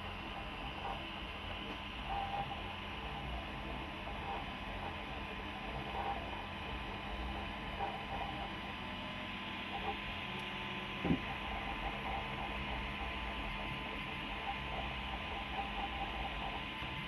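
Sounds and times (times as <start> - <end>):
cooling fans whirring: 0.0 - 17.0.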